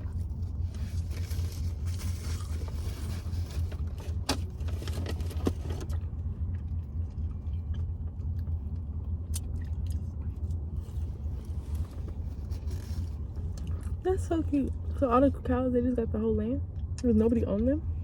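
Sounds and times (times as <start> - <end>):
car engine rumble from inside: 0.0 - 18.0.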